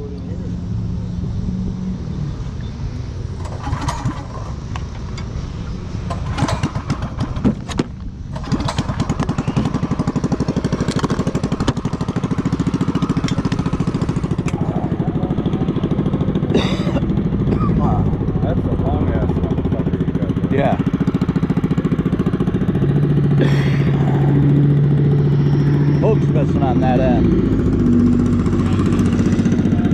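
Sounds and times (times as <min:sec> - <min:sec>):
motorcycle engine running: 0:03.2 - 0:29.9.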